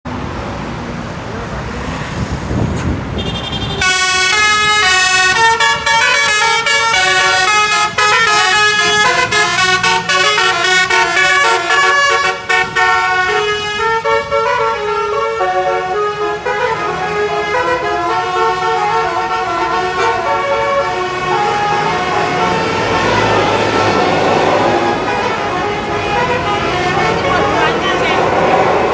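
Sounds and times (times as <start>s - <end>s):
engine and traffic noise: 0.0s - 28.9s
musical air horns melody: 3.2s - 28.9s.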